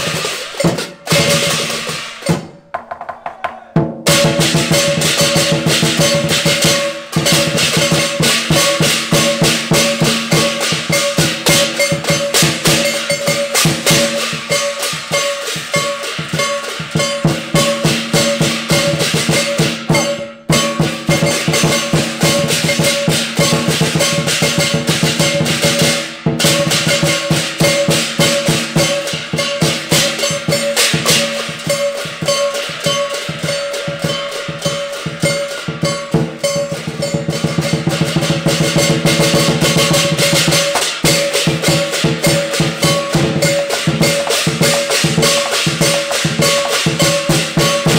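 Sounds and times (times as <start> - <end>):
brass hand cymbals clashing: 0.0 - 2.6, 4.0 - 47.9
drum beaten in fast rhythm: 0.0 - 47.9.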